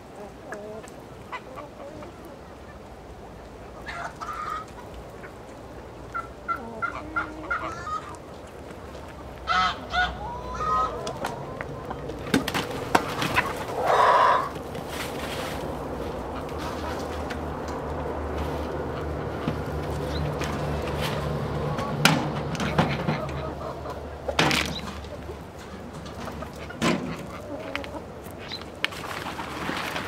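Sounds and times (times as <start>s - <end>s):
chickens clucking and squawking: 0.0s - 30.0s.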